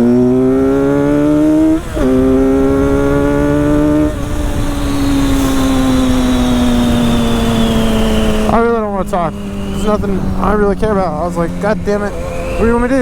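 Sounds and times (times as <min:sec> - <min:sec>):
motorcycle engine accelerating: 0:00.0 - 0:13.0
wind rush: 0:01.2 - 0:13.0.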